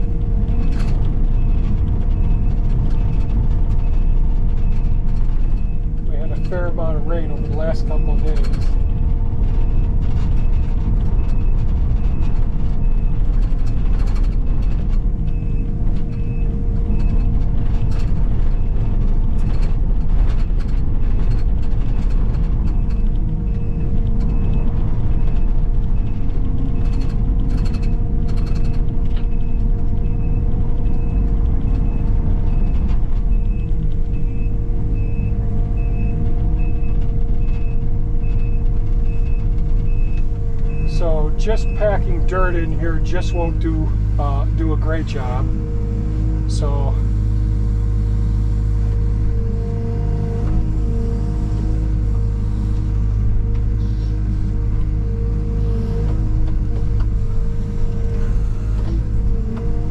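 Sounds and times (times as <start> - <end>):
reverse warning alarm beeping: 0.0 - 19.8, 21.8 - 59.8
heavy machine engine running: 0.0 - 59.9.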